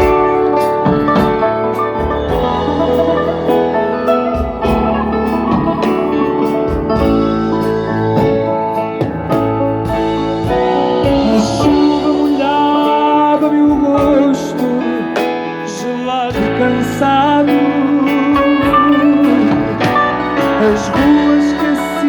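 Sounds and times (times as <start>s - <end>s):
live band playing instrumental: 0.0s - 22.0s.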